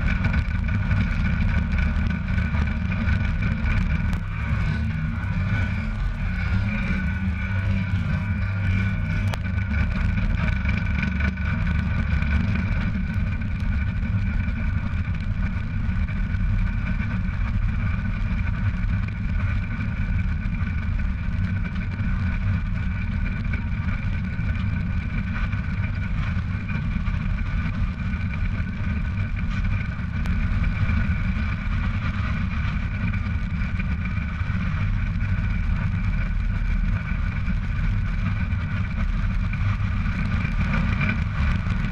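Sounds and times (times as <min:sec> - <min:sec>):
steady whine: 0:00.0 - 0:41.9
truck tyres rumbling on road: 0:00.0 - 0:41.9.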